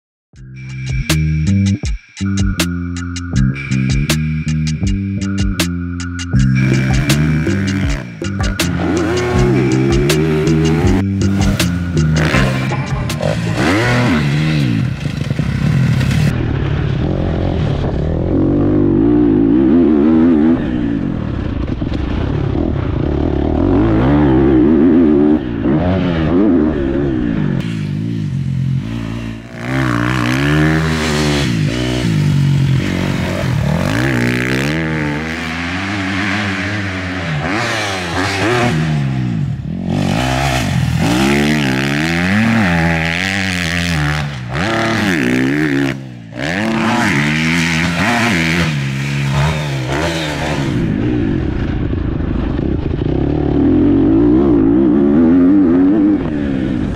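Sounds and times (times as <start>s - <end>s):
dirt bike engine revving: 2.5s - 16.4s, 17.0s - 52.0s, 52.8s - 56.9s.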